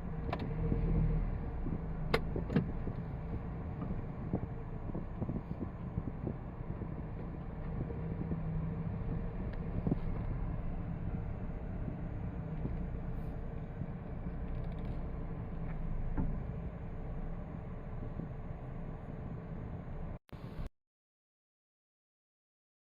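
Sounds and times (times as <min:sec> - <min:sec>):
car road noise: 0:00.0 - 0:20.7.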